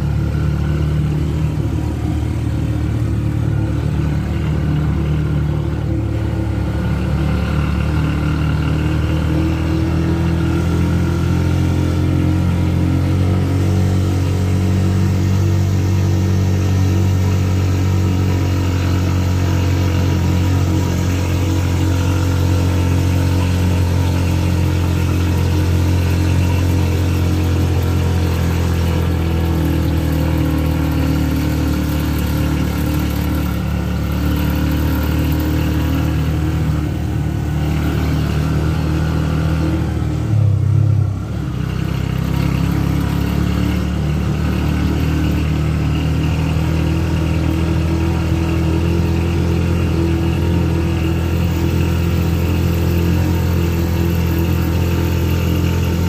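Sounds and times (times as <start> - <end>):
vehicle engine driving: 0.0 - 56.0.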